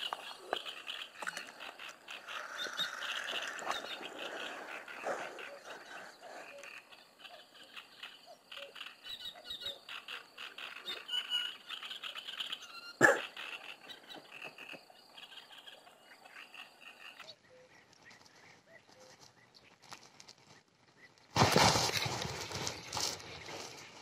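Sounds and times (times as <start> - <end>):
frogs croaking: 0.0 - 19.8.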